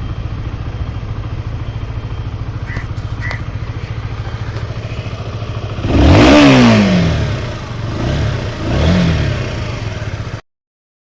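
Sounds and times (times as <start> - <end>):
motorcycle engine idling and revving: 0.0 - 10.4.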